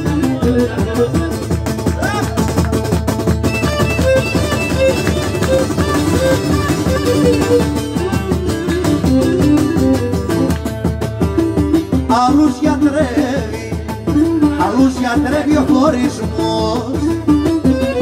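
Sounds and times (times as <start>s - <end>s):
acoustic guitar strumming: 0.0s - 18.0s
string instrument melody: 0.0s - 18.0s.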